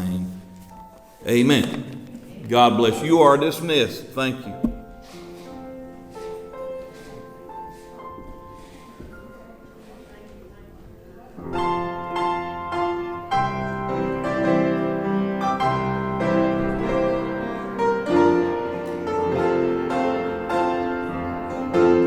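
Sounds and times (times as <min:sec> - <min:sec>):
piano playing: 0:00.0 - 0:22.0.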